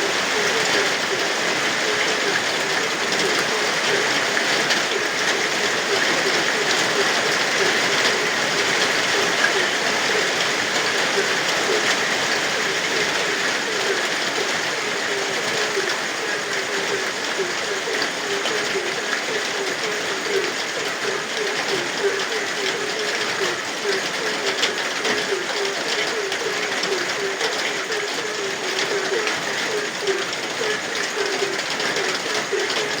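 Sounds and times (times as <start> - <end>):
frogs croaking: 0.0 - 33.0
steady rain falling: 0.0 - 33.0.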